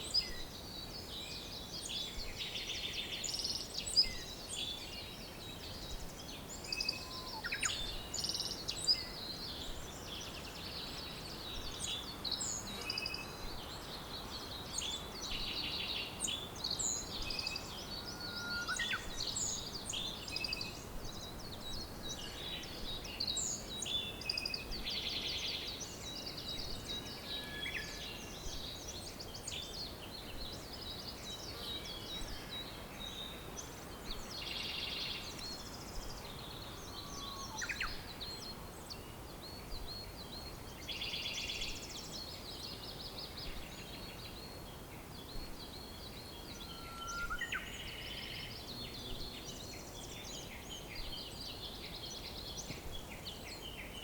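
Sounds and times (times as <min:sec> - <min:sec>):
songbirds chirping and trilling: 0:00.0 - 0:54.0
steady background hiss: 0:00.0 - 0:54.0.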